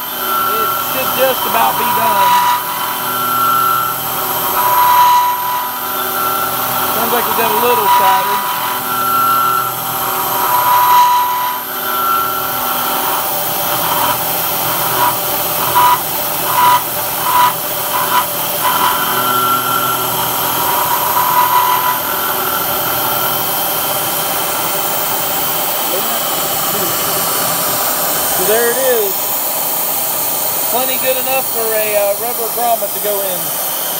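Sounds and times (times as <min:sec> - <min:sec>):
milling machine running: 0:00.0 - 0:33.9.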